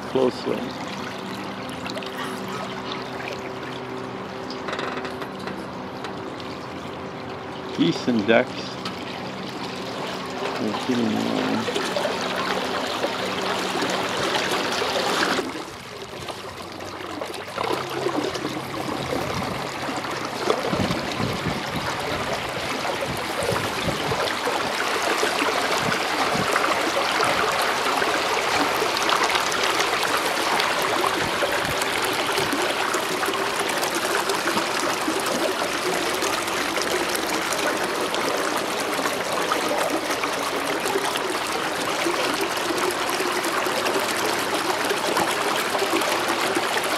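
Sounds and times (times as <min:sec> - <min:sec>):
water trickling against canoe hull: 0:00.0 - 0:46.9.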